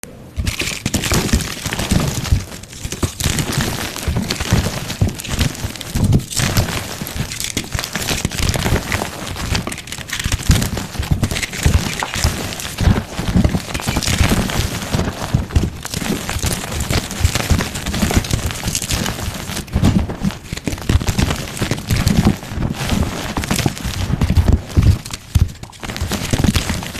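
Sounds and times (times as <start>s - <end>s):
chalk crunching and crackling: 0.4s - 26.9s.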